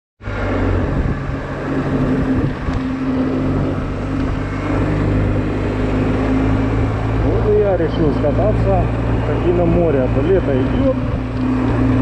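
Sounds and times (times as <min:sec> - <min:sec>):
road and air noise: 0:00.2 - 0:12.0.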